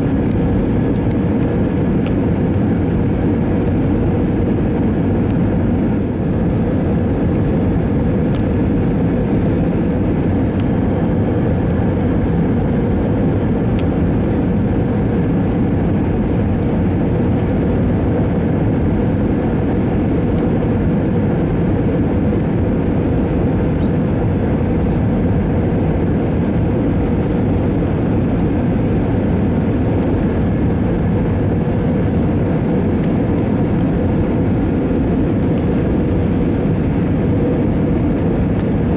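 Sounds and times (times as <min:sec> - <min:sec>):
airliner cabin engine rumble: 0:00.0 - 0:38.9
steady low hum: 0:00.0 - 0:38.9.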